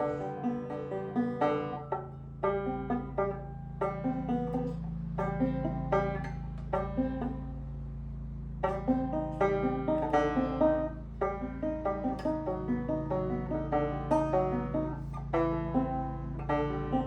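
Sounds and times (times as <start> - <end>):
banjo picking: 0.0 - 17.0.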